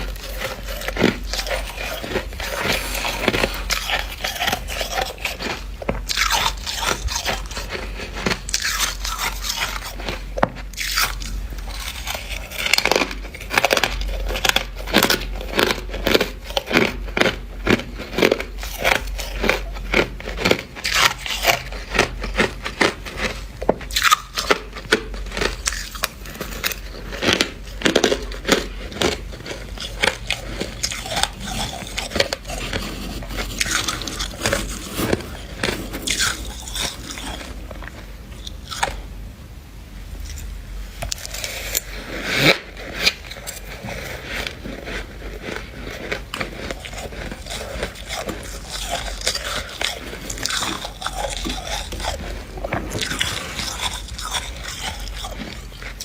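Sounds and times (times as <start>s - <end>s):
chewing crunchy frost: 0.0s - 39.1s, 40.2s - 56.0s.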